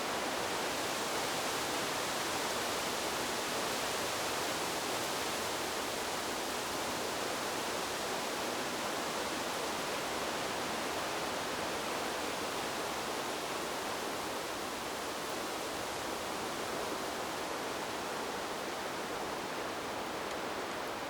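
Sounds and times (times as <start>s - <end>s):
wind rushing through bamboo: 0.0s - 21.0s.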